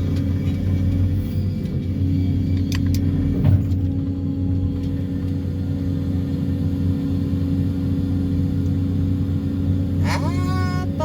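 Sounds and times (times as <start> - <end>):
excavator engine and hydraulics: 0.0 - 11.0.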